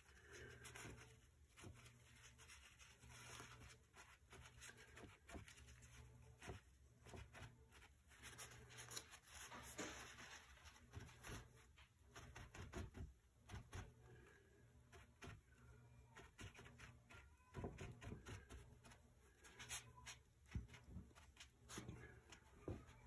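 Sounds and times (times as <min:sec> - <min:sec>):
paintbrush strokes on paper: 0:00.0 - 0:23.0.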